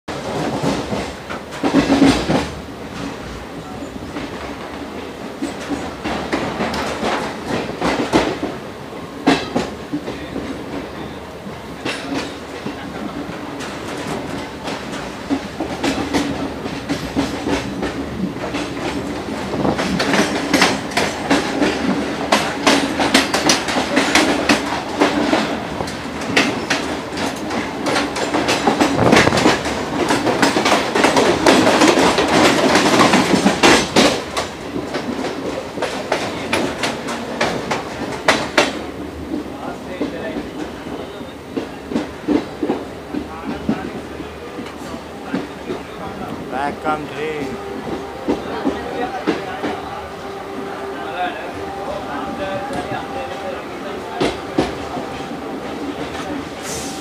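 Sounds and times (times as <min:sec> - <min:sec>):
steady train hum: 0:00.1 - 0:57.0
train wheels clattering over joints: 0:00.1 - 0:57.0.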